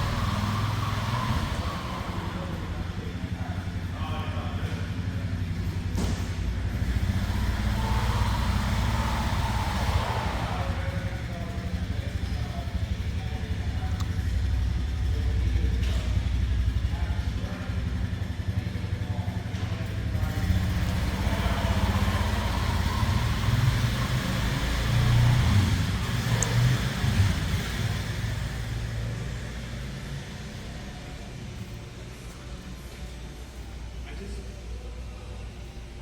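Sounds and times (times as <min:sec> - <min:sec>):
dirt bike engine running: 0:00.0 - 0:32.2.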